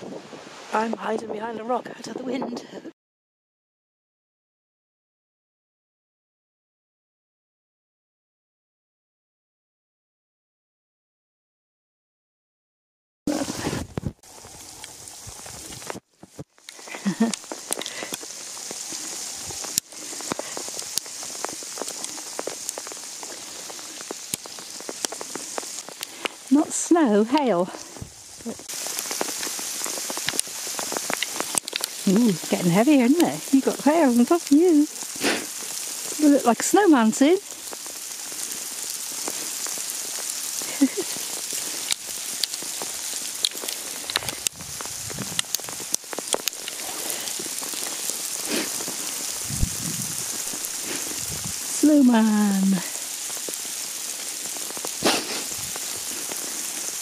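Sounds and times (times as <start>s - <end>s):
hailstones striking ground: 0.0s - 2.7s, 13.3s - 57.0s.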